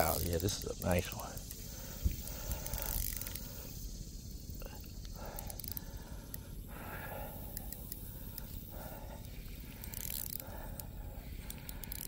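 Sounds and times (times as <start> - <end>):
fishing reel drag hissing: 0.0 - 12.0.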